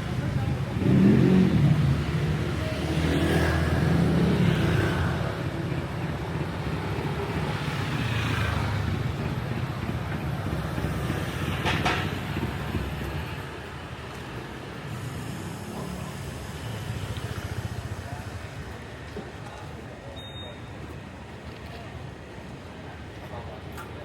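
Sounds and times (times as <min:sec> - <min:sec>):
vehicles passing close by: 0:00.0 - 0:24.0.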